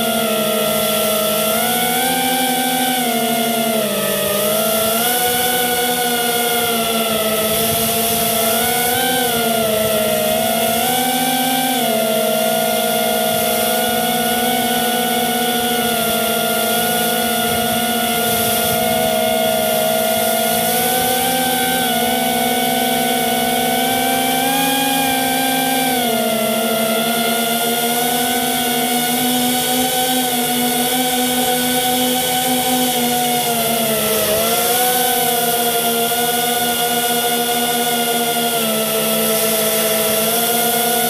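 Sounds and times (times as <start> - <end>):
drone propellers whining: 0.0 - 41.0.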